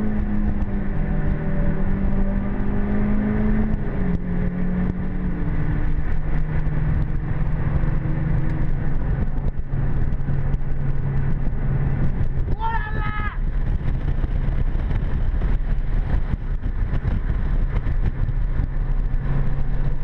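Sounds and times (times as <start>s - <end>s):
car engine running: 0.0s - 20.0s
road and tyre noise: 0.0s - 20.0s.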